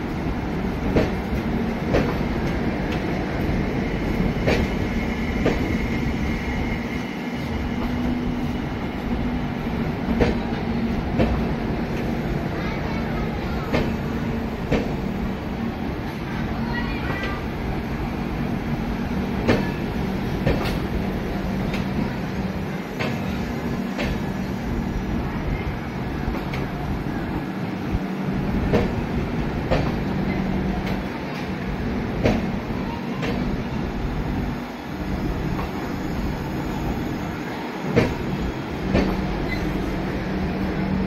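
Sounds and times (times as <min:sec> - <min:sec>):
train coaches rumbling: 0:00.0 - 0:41.0.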